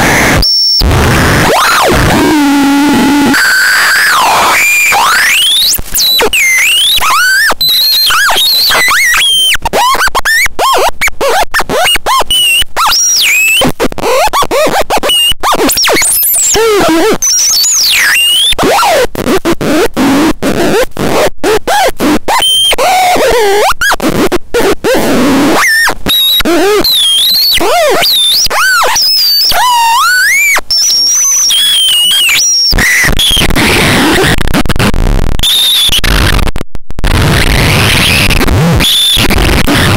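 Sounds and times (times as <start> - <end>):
electronic noise instrument squealing: 0.0 - 36.4, 37.1 - 39.9.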